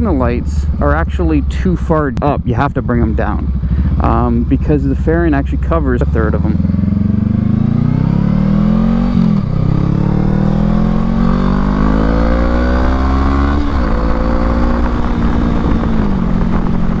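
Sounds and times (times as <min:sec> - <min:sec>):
motorcycle engine revving: 0:00.0 - 0:17.0
wind rumble on microphone: 0:00.0 - 0:17.0.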